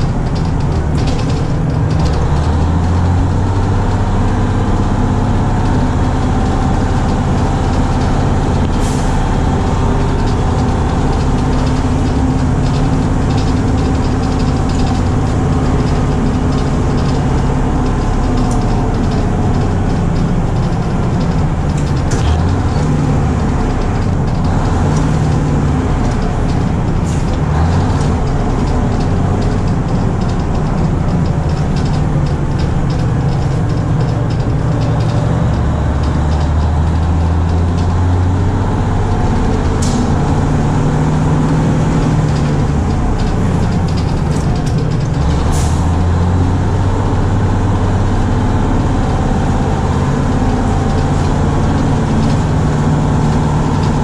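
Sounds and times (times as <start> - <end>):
bus body clicks and rattles: 0.0 - 54.0
bus engine drone: 0.0 - 54.0
road noise: 0.0 - 54.0.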